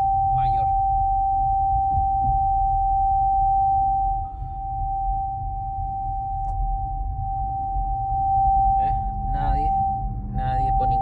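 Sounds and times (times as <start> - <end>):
high-pitched electronic tone: 0.0 - 11.0
low vehicle rumble: 0.0 - 11.0.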